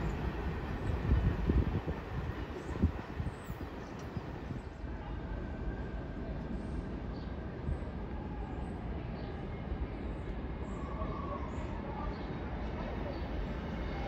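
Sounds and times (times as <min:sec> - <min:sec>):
subway train running on tracks: 0:00.0 - 0:14.0.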